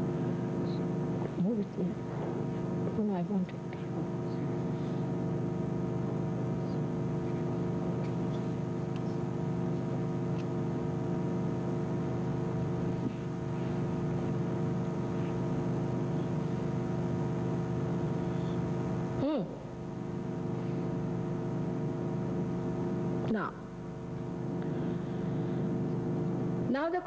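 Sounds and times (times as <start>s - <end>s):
steady hum of fixed tones: 0.0s - 27.0s.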